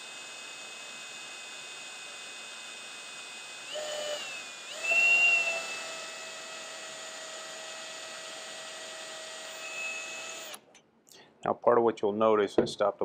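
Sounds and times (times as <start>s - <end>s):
power drill whining: 0.0s - 10.7s.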